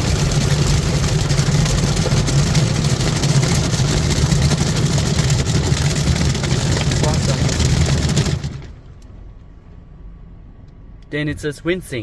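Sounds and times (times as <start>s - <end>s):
car wash machinery and spray: 0.0s - 12.0s.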